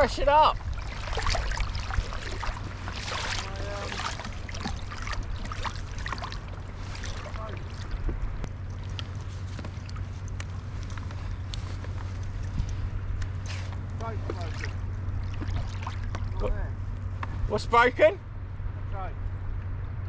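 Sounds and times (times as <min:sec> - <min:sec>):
water splashing against hull: 0:00.0 - 0:17.5.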